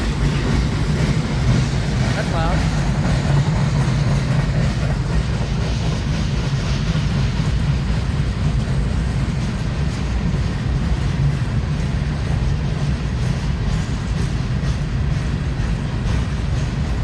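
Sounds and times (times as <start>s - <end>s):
freight train rumbling on rails: 0.0s - 17.0s.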